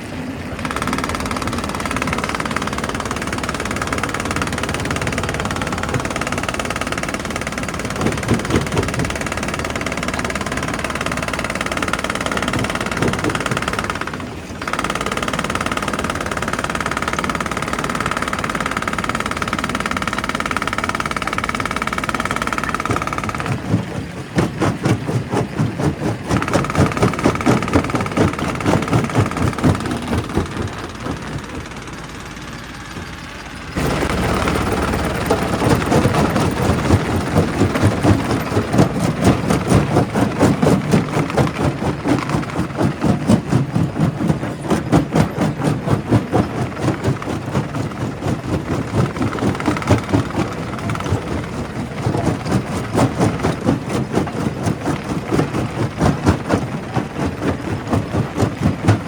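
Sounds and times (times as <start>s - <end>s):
rock crusher running: 0.0s - 59.0s.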